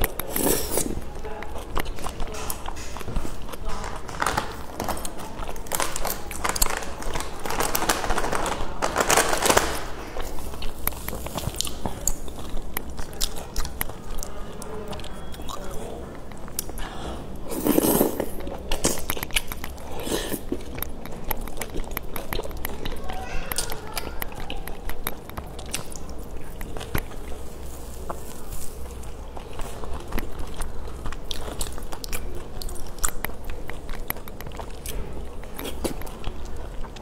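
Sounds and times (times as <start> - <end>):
chewing and slurping noodles: 0.0 - 6.6, 10.0 - 37.0.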